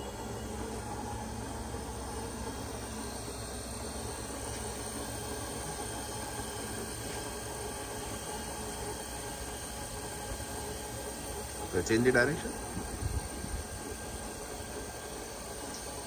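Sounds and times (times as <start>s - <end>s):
machine hum with hiss: 0.0s - 16.0s.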